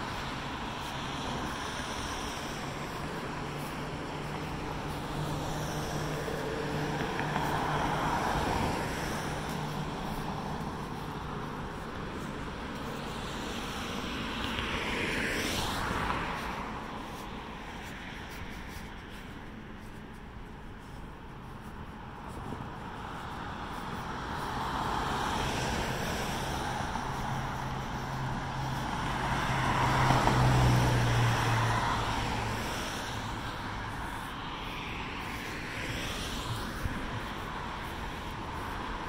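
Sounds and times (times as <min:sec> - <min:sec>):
vehicles passing: 0:00.0 - 0:39.0.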